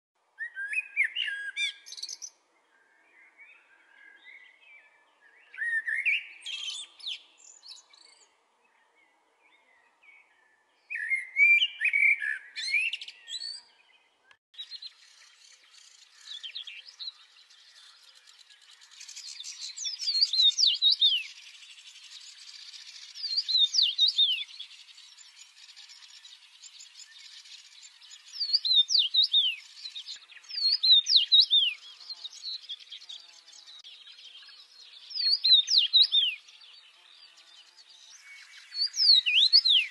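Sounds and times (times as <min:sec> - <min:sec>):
blackbird singing: 0:00.4 - 0:39.9.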